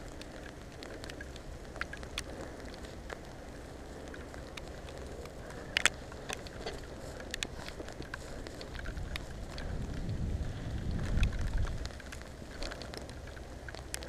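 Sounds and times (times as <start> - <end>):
bike tyres rolling on mud: 0.0 - 14.0
rain: 0.0 - 14.0
sharp ticks: 0.0 - 14.0.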